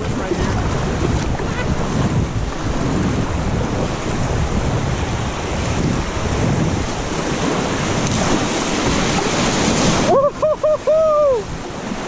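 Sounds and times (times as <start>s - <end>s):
river water rushing: 0.0s - 12.0s
wind rumble on microphone: 0.0s - 12.0s.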